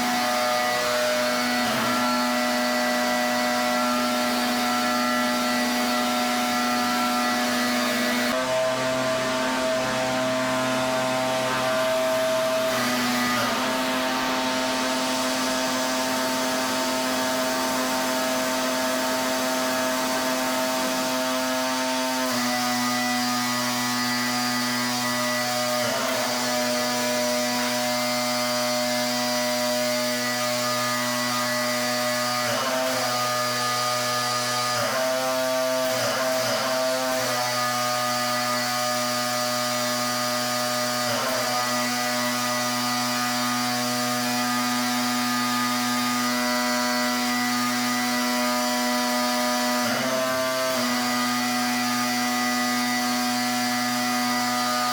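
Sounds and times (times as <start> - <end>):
pressure washer motor: 0.0 - 54.9.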